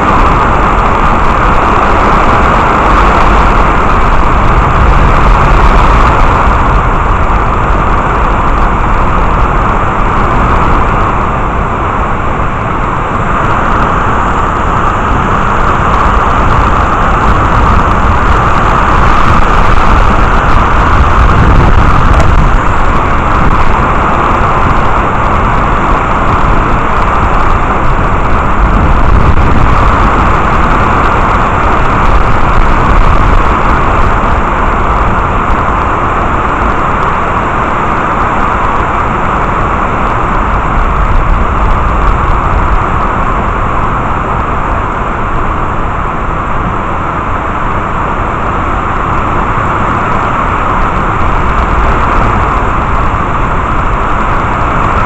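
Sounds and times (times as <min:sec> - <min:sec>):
deep low rumble: 0:00.0 - 0:55.0
heavy rain falling: 0:00.0 - 0:55.0.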